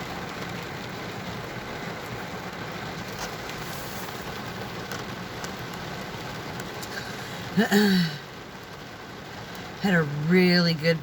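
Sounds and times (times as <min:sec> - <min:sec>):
raindrops ticking: 0:00.0 - 0:11.0
steady rain falling: 0:00.0 - 0:11.0.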